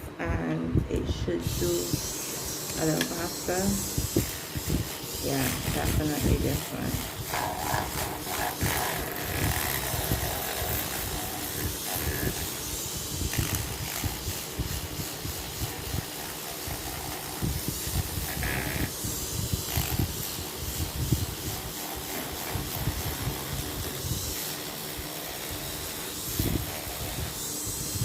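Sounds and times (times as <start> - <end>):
sandpaper scraping metal: 1.5 - 28.0.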